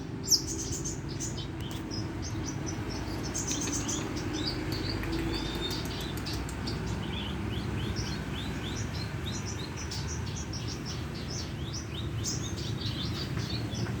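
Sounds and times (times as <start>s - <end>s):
bird singing high chirps: 0.0s - 14.0s.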